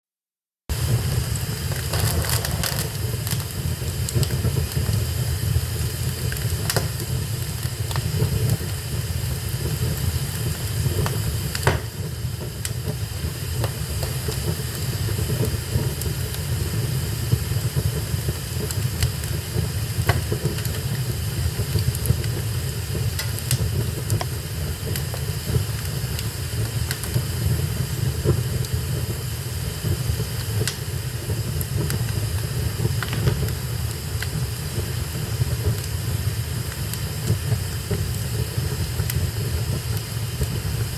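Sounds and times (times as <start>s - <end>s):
fire crackles and pops: 0.7s - 40.9s
fire roaring in fireplace: 0.7s - 40.9s.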